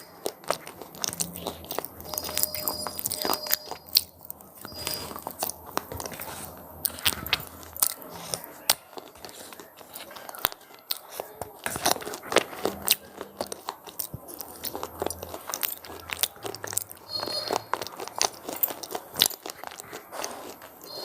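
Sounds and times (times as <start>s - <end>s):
crunchy snack chewing: 0.0s - 21.0s.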